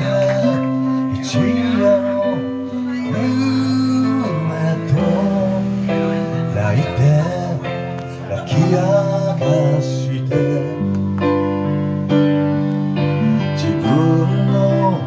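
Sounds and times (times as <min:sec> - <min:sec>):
electric keyboard chords: 0:00.0 - 0:15.0
guitar: 0:00.0 - 0:15.0
person singing: 0:00.0 - 0:15.0.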